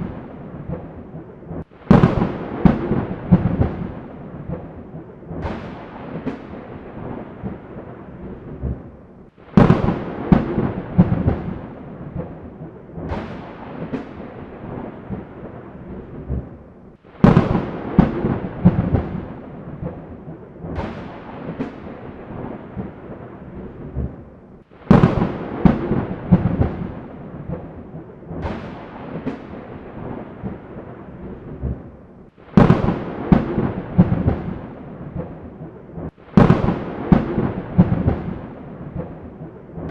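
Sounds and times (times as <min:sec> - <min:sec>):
storm noise: 0:00.0 - 0:39.9
thunder cracks and rumble: 0:00.0 - 0:39.9.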